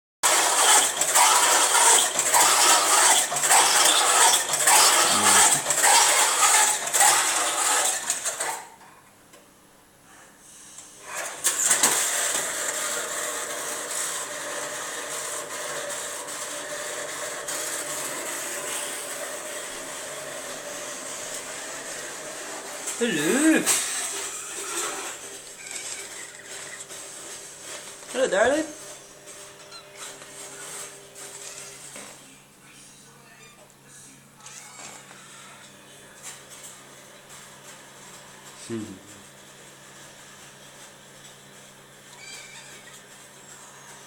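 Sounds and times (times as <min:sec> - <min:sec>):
washing machine drum whirring: 0:00.2 - 0:08.8, 0:11.0 - 0:32.1, 0:36.2 - 0:44.0.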